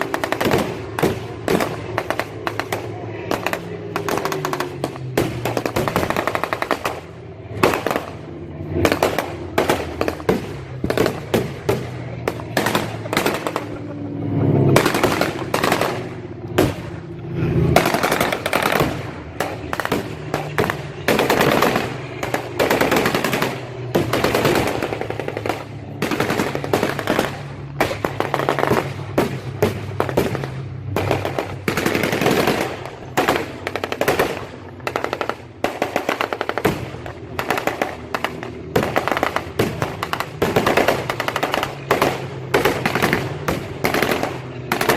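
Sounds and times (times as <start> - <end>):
machine-gun fire bursts: 0.0 - 13.8, 14.8 - 17.0, 17.8 - 44.9.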